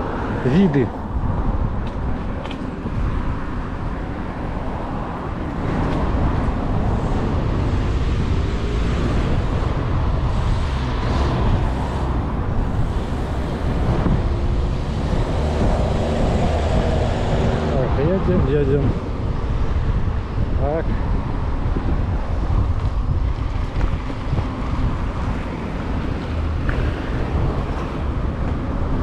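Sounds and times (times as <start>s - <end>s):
road traffic passing: 0.0s - 29.0s
wind rushing on microphone: 0.0s - 29.0s.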